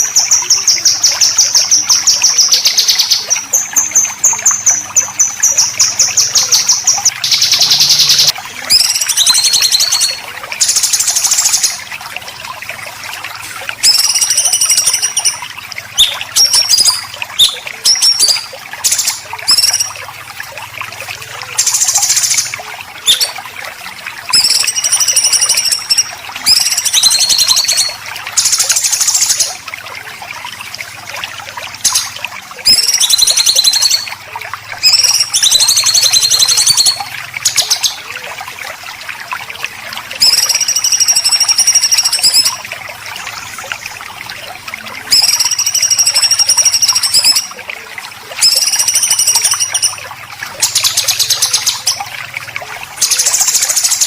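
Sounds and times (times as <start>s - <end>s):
trickling water: 0.0s - 54.0s.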